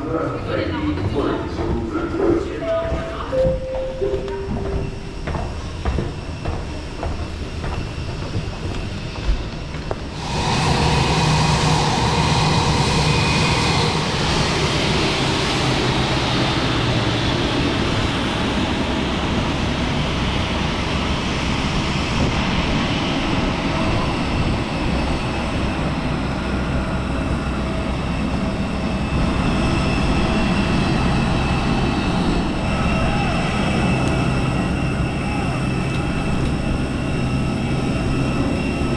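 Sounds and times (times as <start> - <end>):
jet airliner roar: 0.0 - 38.9.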